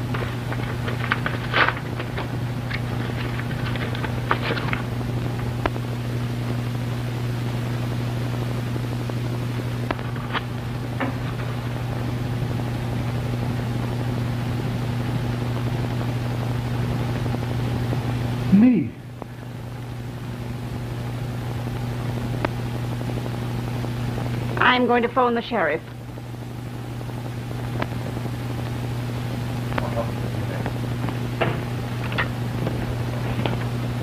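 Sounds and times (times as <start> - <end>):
film soundtrack crackles and clicks: 0.0 - 7.6, 8.5 - 18.4, 19.1 - 34.0
steady low hum: 0.0 - 34.0.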